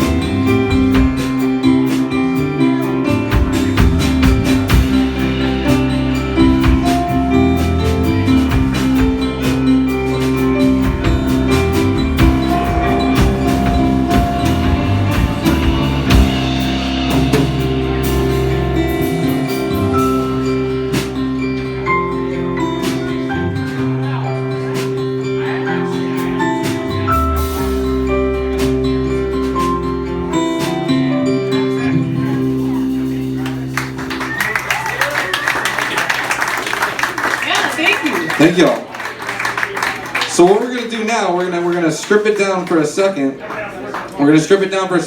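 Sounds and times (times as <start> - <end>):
bass guitar: 0.0 - 37.1
drum kit: 0.0 - 38.6
electric guitars playing chords: 0.0 - 39.9.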